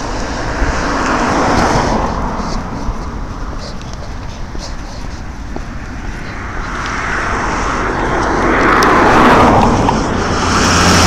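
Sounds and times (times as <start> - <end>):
passing vehicle rushing: 0.0 - 11.0.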